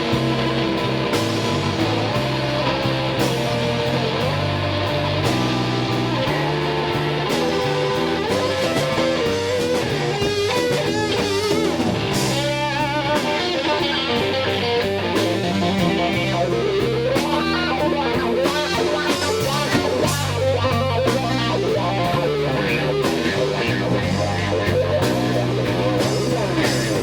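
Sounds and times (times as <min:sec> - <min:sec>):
electric guitar lead: 0:00.0 - 0:27.0
slow blues band: 0:00.0 - 0:27.0.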